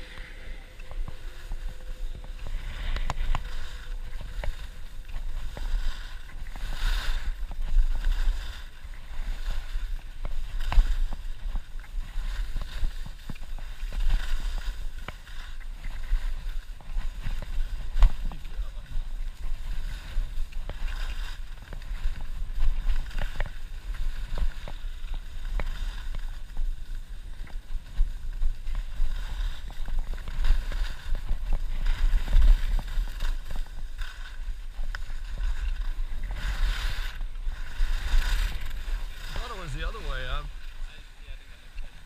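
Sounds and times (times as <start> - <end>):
skis carving over packed snow: 0.0 - 42.0.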